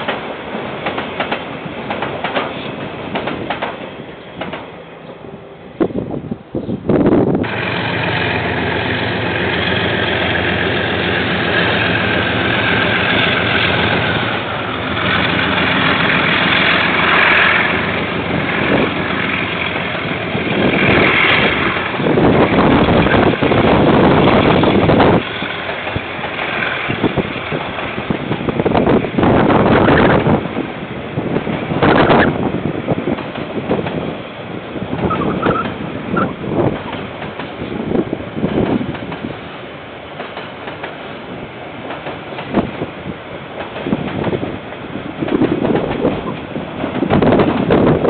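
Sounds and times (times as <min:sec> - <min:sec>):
train wagons rolling by: 0:00.0 - 0:05.9, 0:07.4 - 0:48.0
locomotive engine drone: 0:00.0 - 0:48.0.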